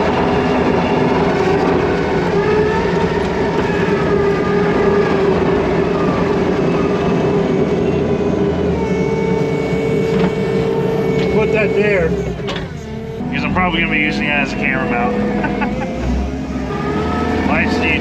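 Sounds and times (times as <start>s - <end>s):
diesel engine running: 0.0s - 18.0s
faint whining tones: 0.0s - 18.0s.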